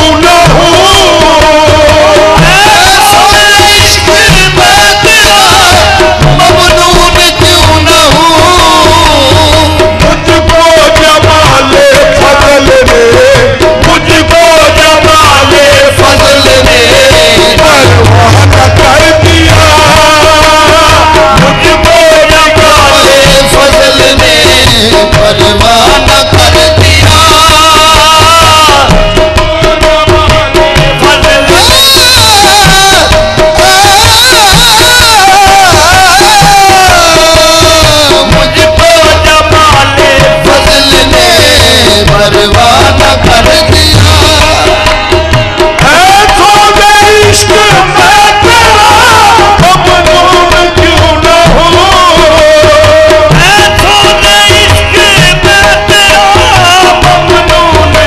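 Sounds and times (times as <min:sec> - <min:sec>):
drum beat: 0:00.0 - 0:58.0
harmonium drone: 0:00.0 - 0:58.0
man singing: 0:00.0 - 0:58.0.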